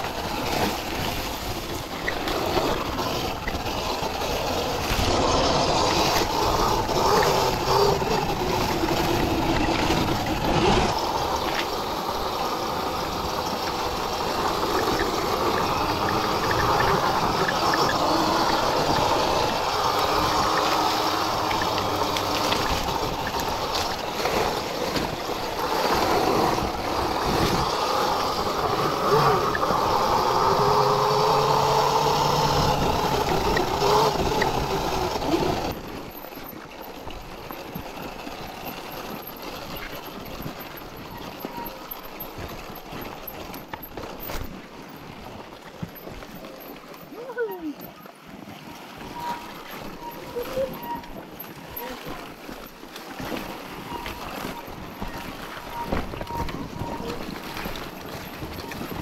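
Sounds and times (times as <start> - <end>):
wind and tyre noise: 0.0 - 59.0.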